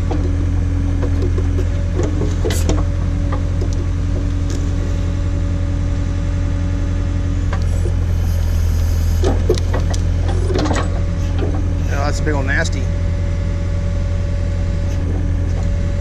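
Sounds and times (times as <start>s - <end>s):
steady whine: 0.0s - 16.0s
tractor engine running: 0.0s - 16.0s.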